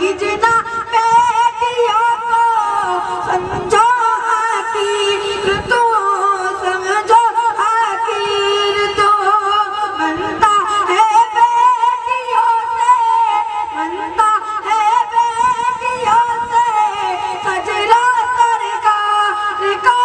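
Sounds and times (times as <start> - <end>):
boy singing into a microphone: 0.0 - 20.0.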